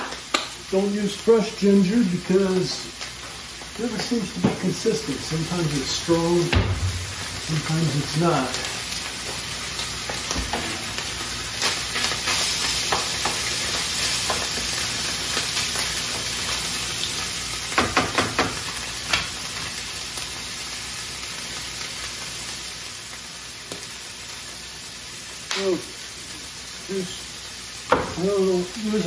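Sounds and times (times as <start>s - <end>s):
meat sizzling in a skillet: 0.0s - 29.0s.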